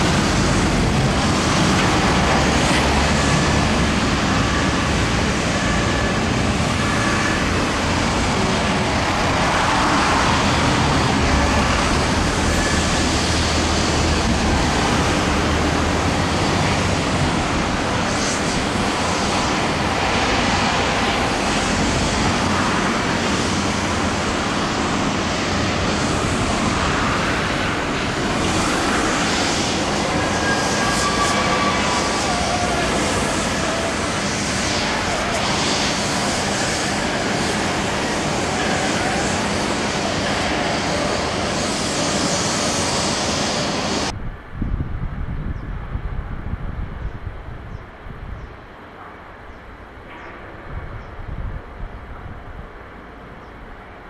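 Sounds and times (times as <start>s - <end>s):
distant traffic rumble: 0.0s - 54.0s.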